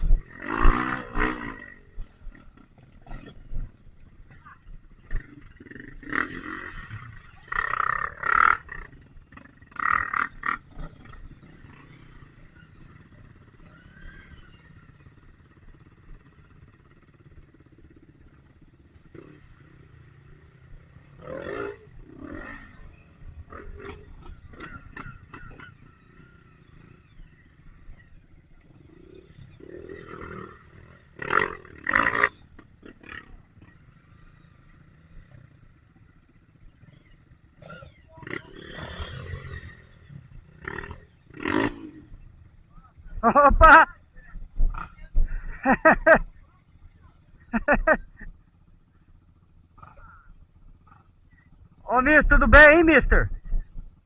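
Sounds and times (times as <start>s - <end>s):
muffled dirt bike engine revving: 0.0s - 54.0s.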